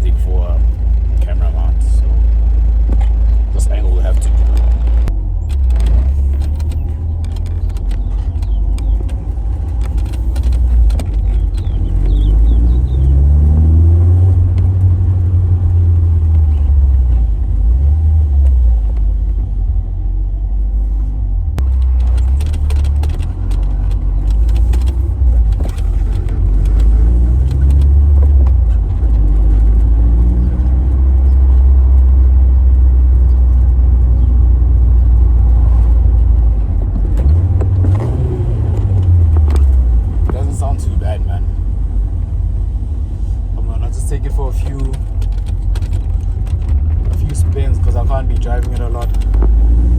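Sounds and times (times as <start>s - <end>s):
car engine accelerating: 0.0s - 49.9s
heavy low rumble: 0.0s - 49.9s.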